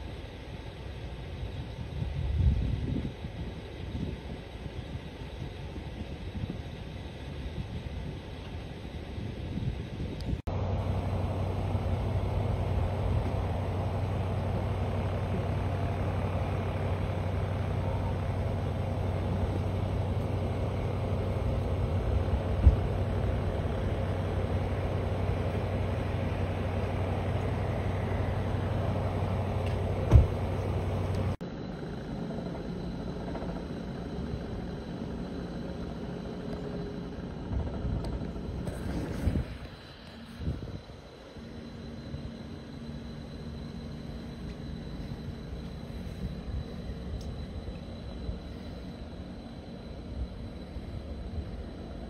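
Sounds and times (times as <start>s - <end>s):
steady background noise: 0.0s - 52.0s
vehicle engine idling: 0.0s - 52.0s.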